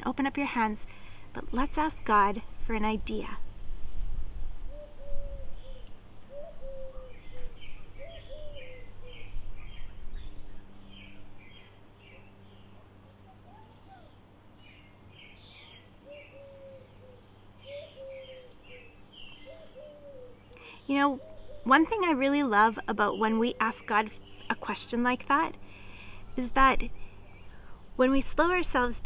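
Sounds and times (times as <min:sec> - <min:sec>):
high insect trill: 0:00.6 - 0:29.0
birds chirping: 0:04.6 - 0:29.0.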